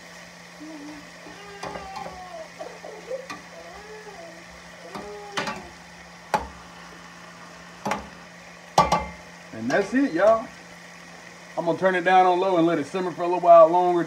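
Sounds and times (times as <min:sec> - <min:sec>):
faint sizzling: 0:00.0 - 0:14.0.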